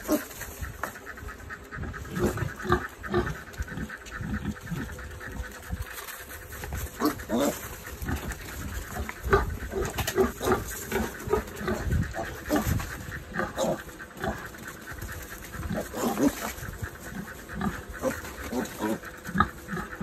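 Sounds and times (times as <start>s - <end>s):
piglets calling: 0.0s - 20.0s.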